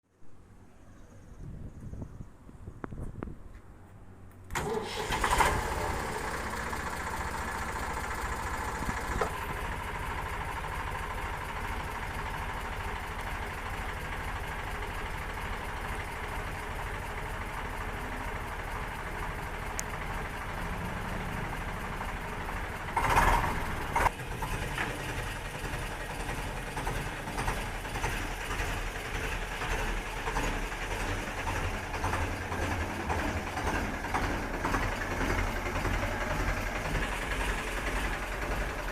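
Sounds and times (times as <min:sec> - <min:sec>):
tractor diesel engine idling: 0:04.5 - 0:38.9.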